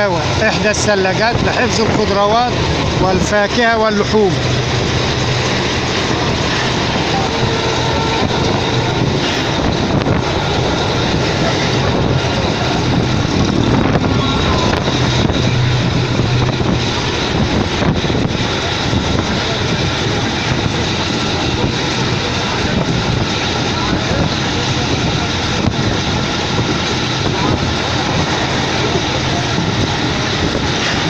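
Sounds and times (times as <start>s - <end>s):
train running noise inside carriage: 0.0s - 31.0s.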